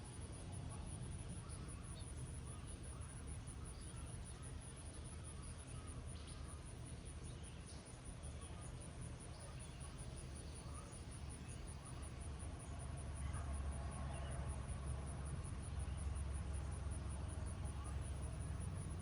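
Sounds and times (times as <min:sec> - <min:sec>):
high pulsing insect call: 0:00.1 - 0:13.2, 0:13.9 - 0:19.0.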